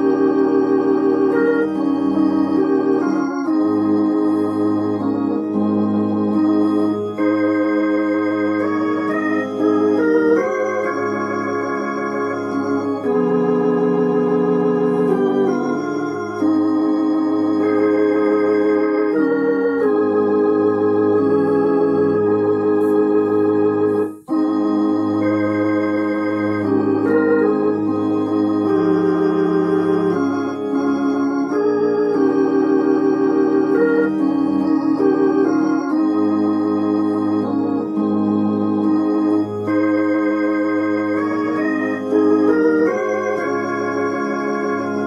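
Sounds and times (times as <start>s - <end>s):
organ hymn chords: 0.0s - 45.0s.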